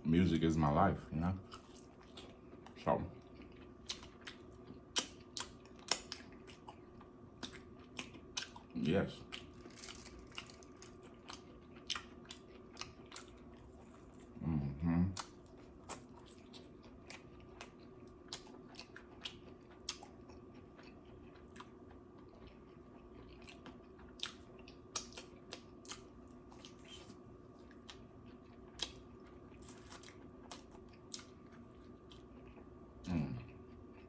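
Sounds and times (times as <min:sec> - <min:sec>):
faint steady hum: 0:00.0 - 0:34.0
person chewing food: 0:01.4 - 0:14.4, 0:15.1 - 0:34.0.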